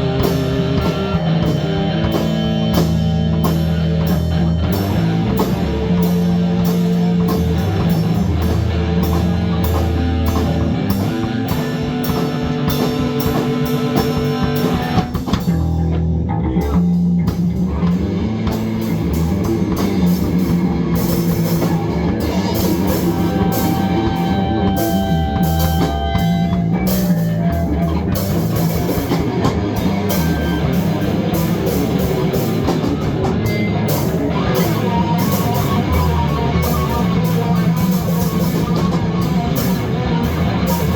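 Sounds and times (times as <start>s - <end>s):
rock music on guitar and drums: 0.0s - 40.9s.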